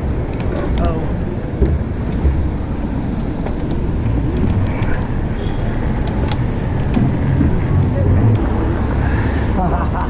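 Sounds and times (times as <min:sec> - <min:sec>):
wind rumble: 0:00.0 - 0:09.6
street traffic: 0:00.0 - 0:10.0.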